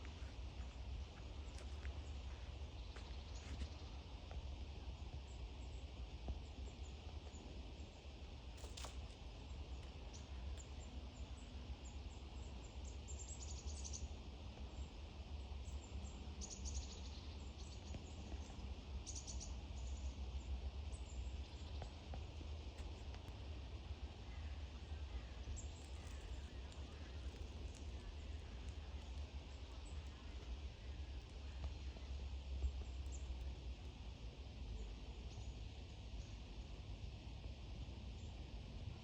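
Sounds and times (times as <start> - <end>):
small birds chirping: 0.0 - 36.6.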